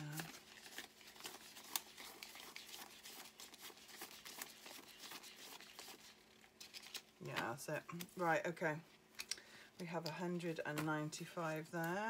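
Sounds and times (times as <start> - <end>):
banknotes crinkling and flicking: 0.0 - 12.0.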